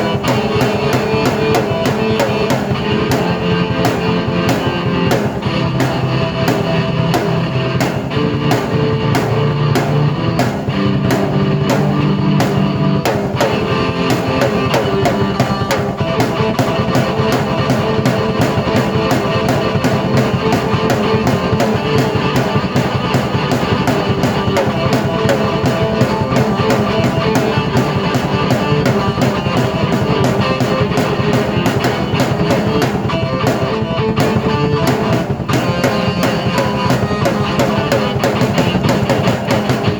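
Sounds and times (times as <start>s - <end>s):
drum kit beat: 0.0s - 39.9s
keyboard chords: 0.0s - 39.9s.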